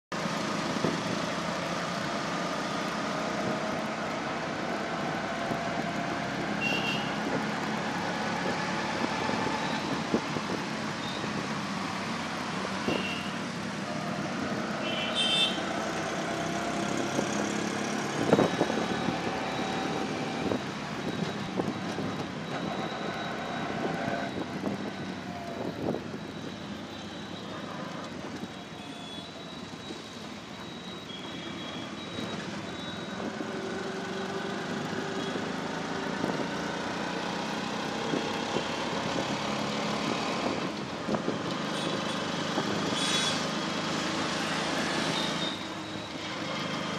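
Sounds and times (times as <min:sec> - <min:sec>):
auto-rickshaw engine running: 0:00.2 - 0:46.9.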